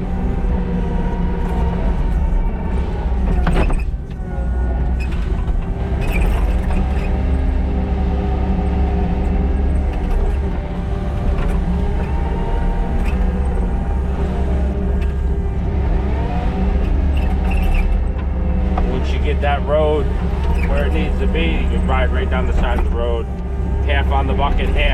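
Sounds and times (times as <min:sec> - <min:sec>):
diesel engine running under load: 0:00.0 - 0:24.9.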